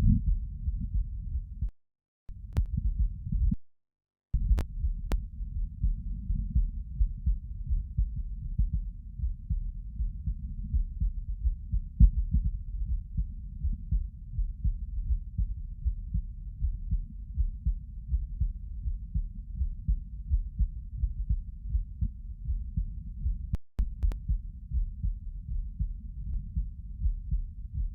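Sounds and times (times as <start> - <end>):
heartbeat thuds: 0.0 - 1.7, 2.3 - 3.6, 4.4 - 27.9.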